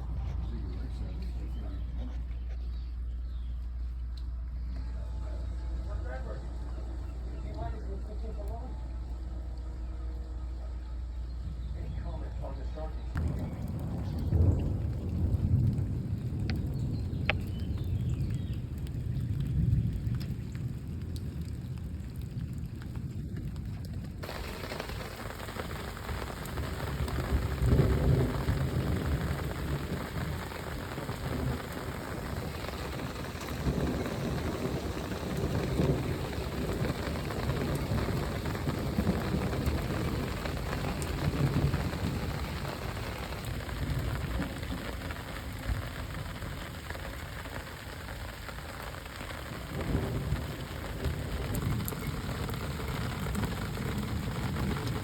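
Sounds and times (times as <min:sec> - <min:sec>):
thunder rumbling: 0:00.0 - 0:02.6, 0:13.1 - 0:55.0
rain hissing: 0:00.0 - 0:55.0.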